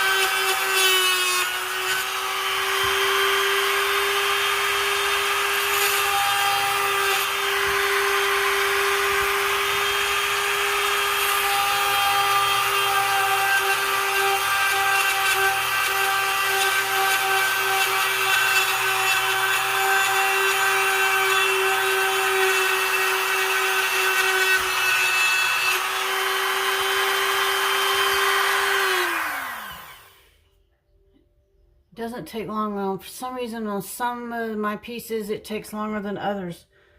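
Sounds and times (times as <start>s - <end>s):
drill bit grinding china: 0.0s - 30.2s
power drill whining: 0.0s - 30.5s.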